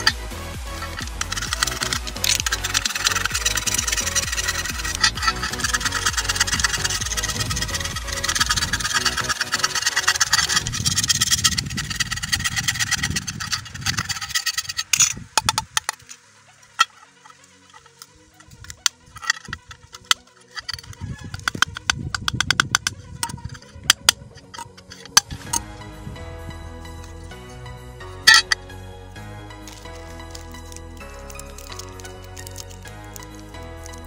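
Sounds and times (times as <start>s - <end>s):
knife blade scraping metal lid: 0.0s - 16.2s, 16.8s - 25.7s, 28.2s - 28.6s, 29.7s - 34.0s.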